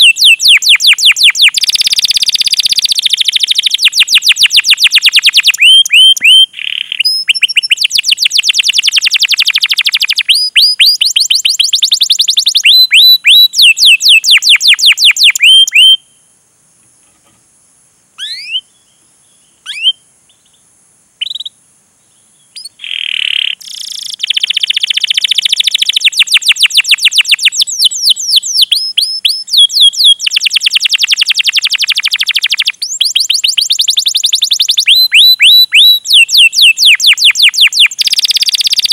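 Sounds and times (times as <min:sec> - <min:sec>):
canary singing trills: 0:00.0 - 0:16.3, 0:18.2 - 0:38.9
faint bird chirps: 0:00.0 - 0:38.9.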